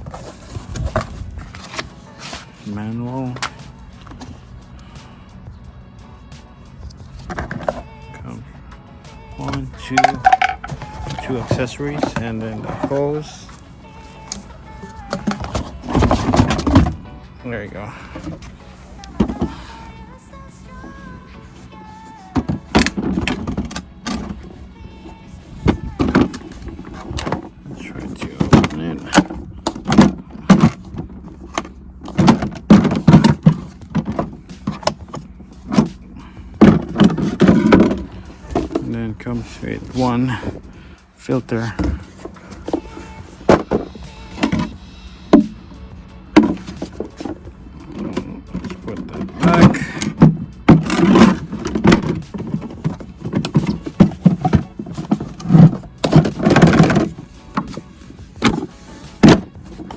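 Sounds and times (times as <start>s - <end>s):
rustling: 0.0s - 8.2s, 9.4s - 17.0s, 18.0s - 59.9s.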